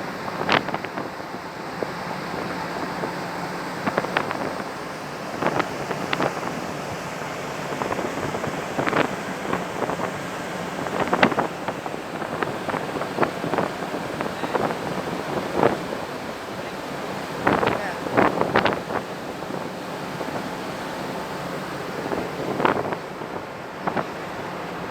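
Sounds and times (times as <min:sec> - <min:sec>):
sea water splashing along hull: 0:00.0 - 0:24.9
wind buffeting microphone: 0:00.0 - 0:24.9.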